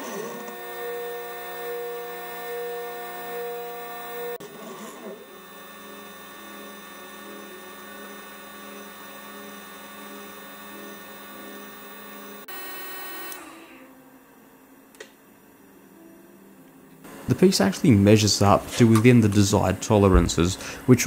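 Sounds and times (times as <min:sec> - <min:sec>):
milling machine whine: 0:00.0 - 0:14.0, 0:17.0 - 0:21.0.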